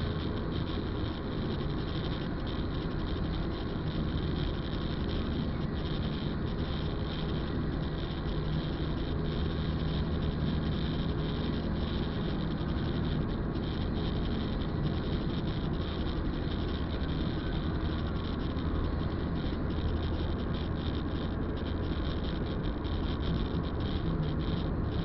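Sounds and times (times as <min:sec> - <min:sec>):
car engine hum: 0:00.0 - 0:25.0.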